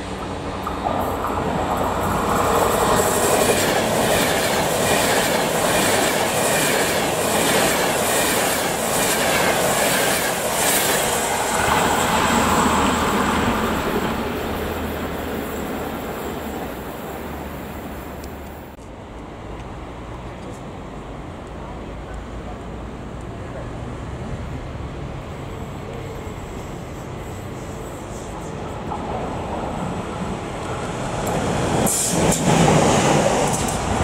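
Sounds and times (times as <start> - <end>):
train wheels rushing on rail: 0.0 - 34.0.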